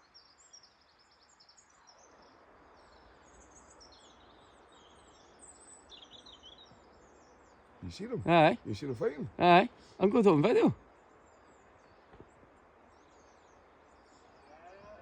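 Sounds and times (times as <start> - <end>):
small birds chirping: 0.0 - 15.0
soft steady hiss: 0.0 - 15.0.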